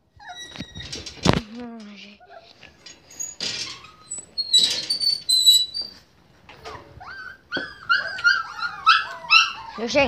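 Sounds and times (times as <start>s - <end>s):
puppies squeaking and whimpering: 0.1s - 1.2s, 2.2s - 10.0s.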